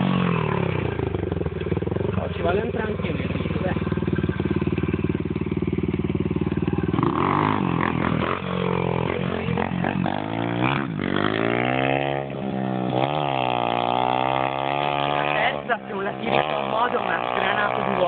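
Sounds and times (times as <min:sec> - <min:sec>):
small motorbike engine revving: 0:00.0 - 0:18.0.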